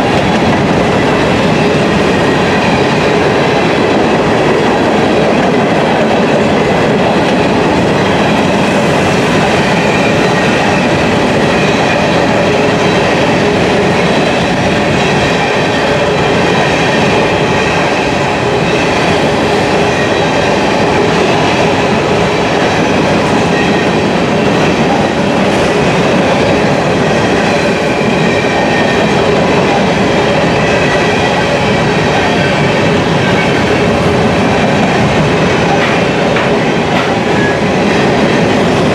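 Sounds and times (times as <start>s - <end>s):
clickety-clack over rail joints: 0.0s - 38.9s
freight train wheels on rails: 0.0s - 38.9s.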